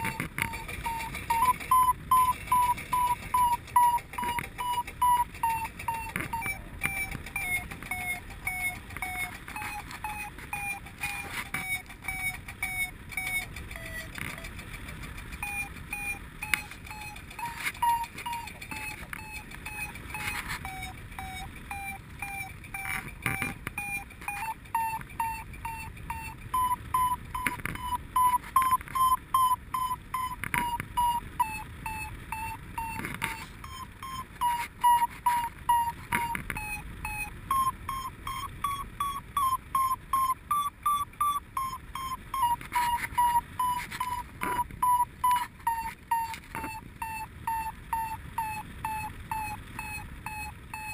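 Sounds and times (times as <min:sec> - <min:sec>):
variometer beeping: 0:00.0 - 0:50.9.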